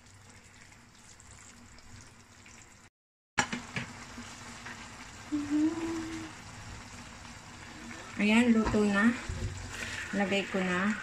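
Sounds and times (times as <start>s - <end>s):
sauce bubbling and sizzling: 0.0s - 11.0s.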